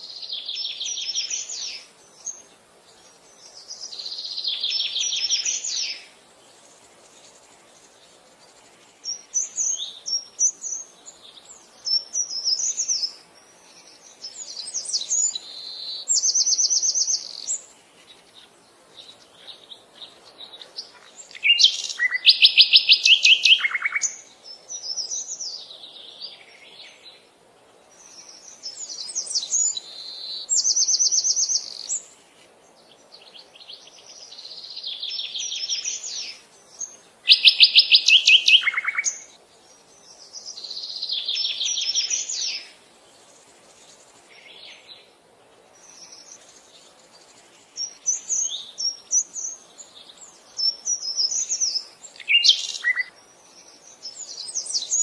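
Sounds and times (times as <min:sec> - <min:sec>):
faint outdoor hum: 0:00.0 - 0:55.0
songbirds chirping and trilling: 0:00.0 - 0:55.0.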